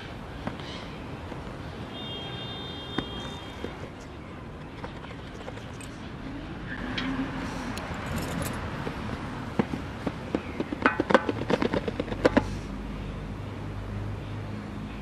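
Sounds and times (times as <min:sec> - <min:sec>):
low traffic hum: 0:00.0 - 0:15.0.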